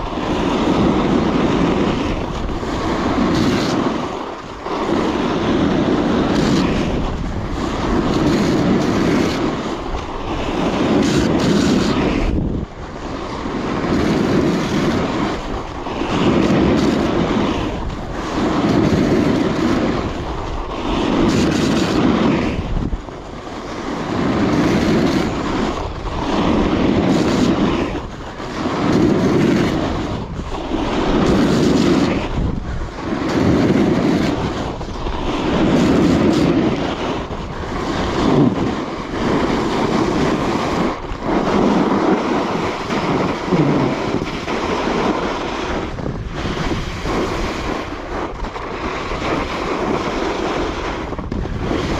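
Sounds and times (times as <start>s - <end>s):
snowboard carving through snow: 0.0s - 51.9s.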